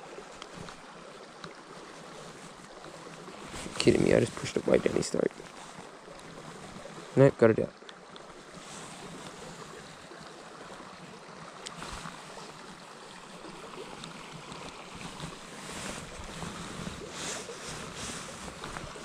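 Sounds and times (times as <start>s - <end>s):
flowing stream water: 0.0s - 19.0s.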